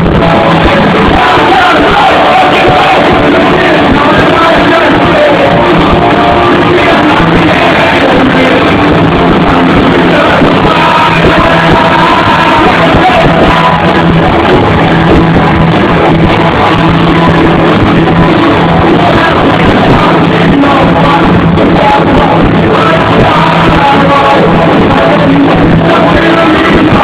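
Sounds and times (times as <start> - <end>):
live punk rock band: 0.0 - 27.0
person singing: 0.0 - 27.0.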